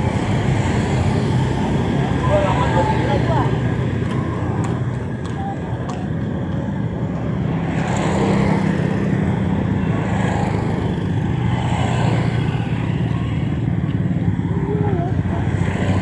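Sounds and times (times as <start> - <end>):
cars passing: 0.0 - 16.0
motor scooters passing: 0.0 - 16.0.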